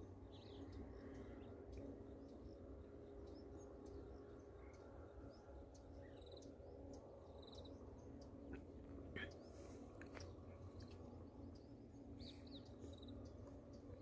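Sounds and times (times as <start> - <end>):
distant small birds chirping: 0.0 - 14.0
low steady rumble: 0.0 - 14.0.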